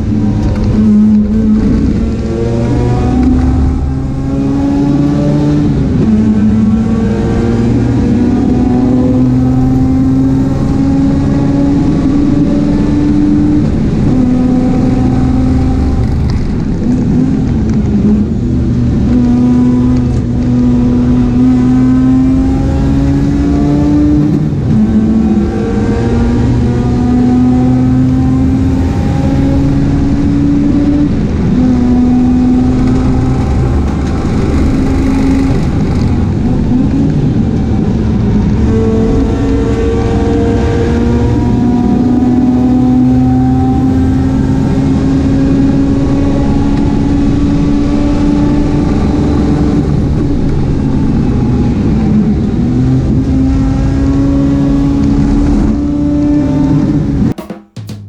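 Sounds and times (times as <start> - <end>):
race car engine accelerating: 0.0 - 57.4.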